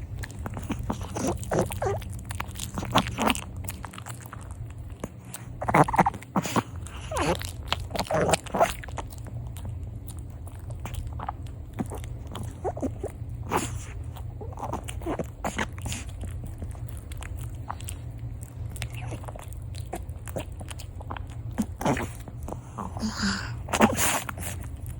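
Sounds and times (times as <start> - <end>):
dog chewing and crunching food: 0.0 - 24.9
steady low hum: 0.0 - 24.9.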